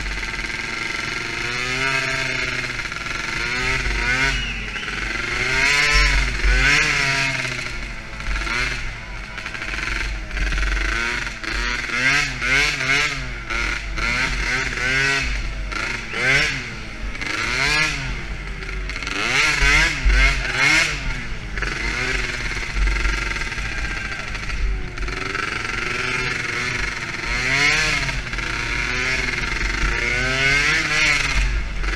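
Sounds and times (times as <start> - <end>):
quad engine revving: 0.0 - 31.9.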